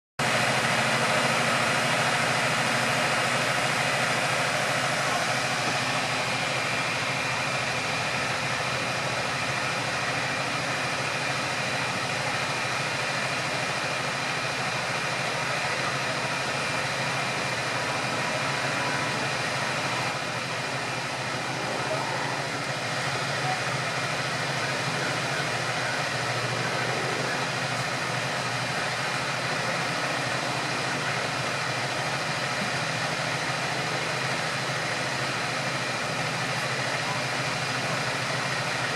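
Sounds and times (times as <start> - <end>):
vehicle engine idling: 0.2 - 38.9.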